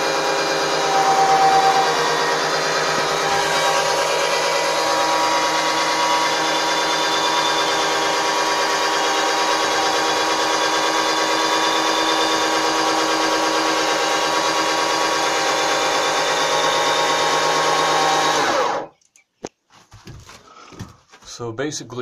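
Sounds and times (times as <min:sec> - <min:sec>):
cordless drill motor whine: 0:00.0 - 0:18.9.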